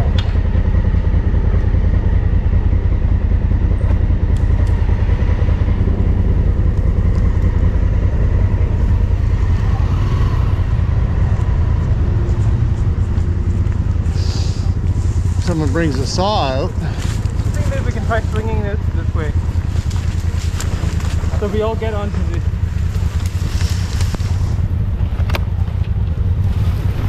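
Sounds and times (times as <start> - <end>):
motorcycle engine rumbling: 0.0 - 27.0.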